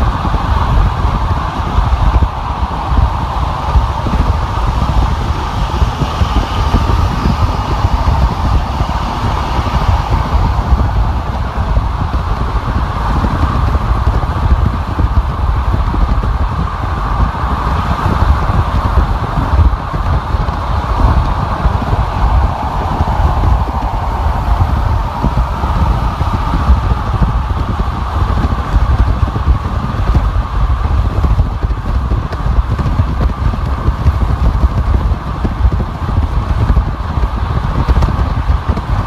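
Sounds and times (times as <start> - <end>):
car road noise: 0.0 - 39.0.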